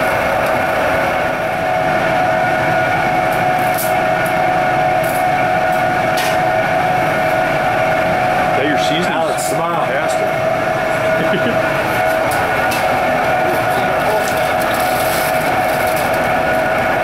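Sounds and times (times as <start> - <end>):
ventilation hood droning: 0.0 - 17.0.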